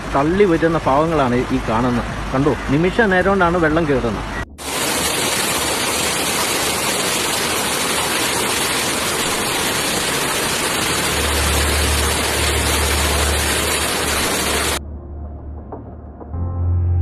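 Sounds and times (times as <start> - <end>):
floodwater rushing: 0.0 - 14.8
deep water rumble: 0.0 - 17.0.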